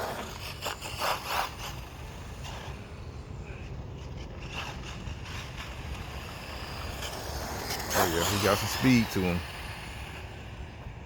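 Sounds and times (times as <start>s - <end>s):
distant rc truck running: 0.0s - 11.0s.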